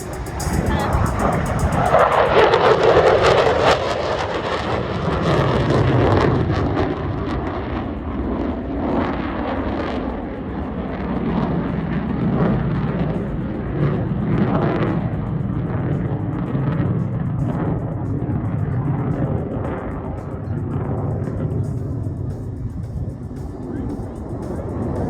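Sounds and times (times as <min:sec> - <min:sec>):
jet engine roaring: 0:00.0 - 0:25.0.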